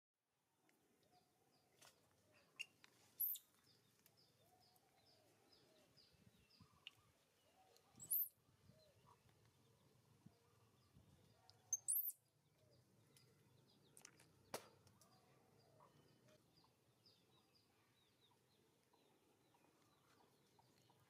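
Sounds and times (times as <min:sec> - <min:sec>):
small birds chirping: 0:01.0 - 0:21.0.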